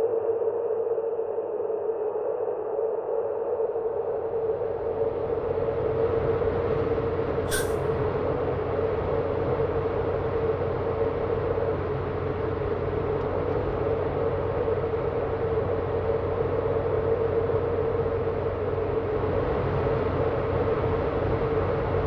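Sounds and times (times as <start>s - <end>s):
dark ambient drone: 0.0s - 22.0s.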